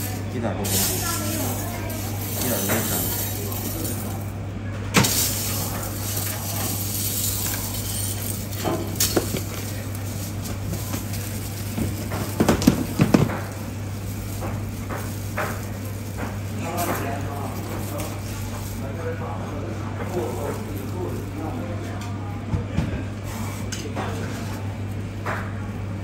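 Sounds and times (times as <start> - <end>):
crushed ice clinking and crunching: 0.0 - 4.4, 5.0 - 22.0.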